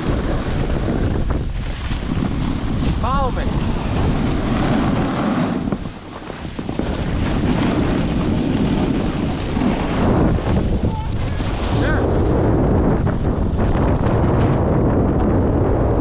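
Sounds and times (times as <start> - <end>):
ski edges scraping snow: 0.0 - 14.5
wind rushing over microphone: 0.0 - 16.0.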